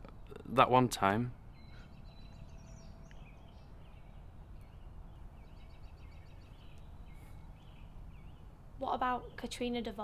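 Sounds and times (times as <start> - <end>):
faint birdsong chirps: 0.0 - 10.0.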